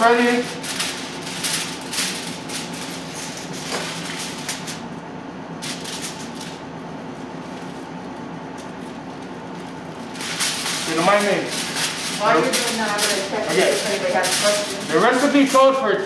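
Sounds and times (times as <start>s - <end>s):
aluminium foil crinkling: 0.0s - 4.9s, 5.6s - 16.0s
steady low hum: 0.0s - 16.0s.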